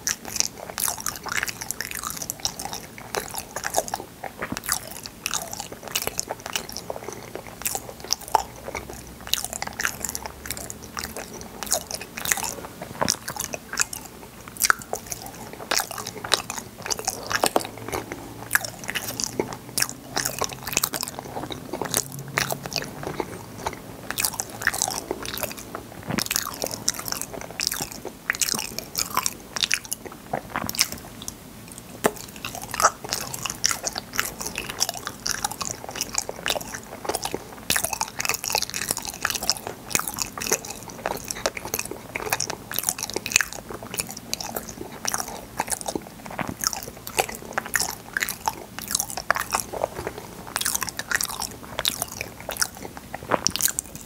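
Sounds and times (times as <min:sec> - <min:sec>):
chewing with wet mouth sounds: 0:00.0 - 0:54.0.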